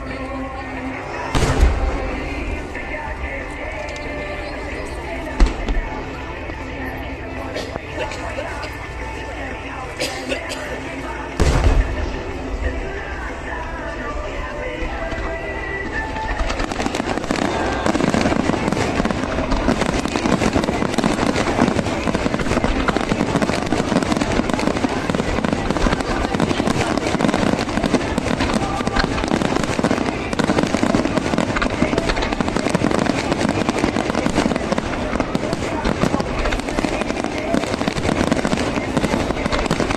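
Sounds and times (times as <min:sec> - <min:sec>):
fireworks crackling and booming: 0:00.0 - 0:39.9.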